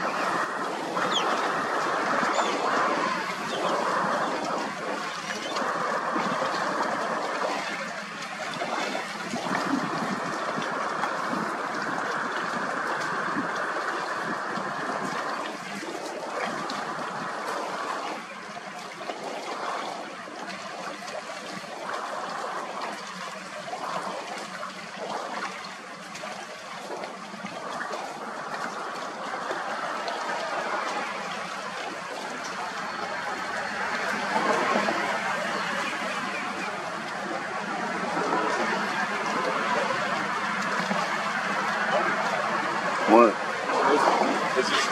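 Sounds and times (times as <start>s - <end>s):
steady rushing noise: 0.0s - 44.9s.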